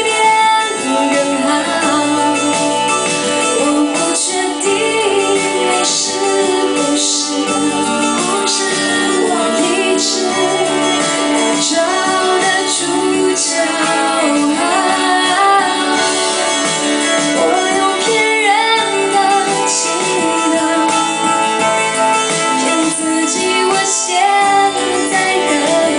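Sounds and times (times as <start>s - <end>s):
instrumental backing music: 0.0s - 25.9s
woman singing into a microphone: 0.0s - 25.9s.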